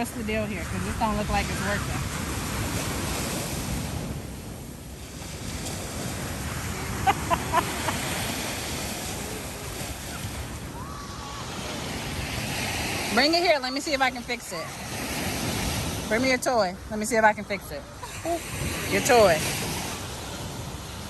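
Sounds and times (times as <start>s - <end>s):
ocean surf washing on shore: 0.0s - 21.0s
wind buffeting microphone: 0.0s - 21.0s.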